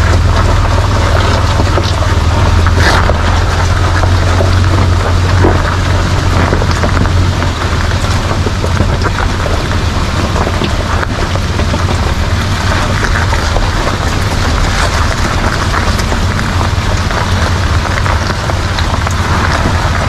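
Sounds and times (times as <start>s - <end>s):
car engine running: 0.0s - 20.0s
dense patter of small hits: 0.0s - 20.0s.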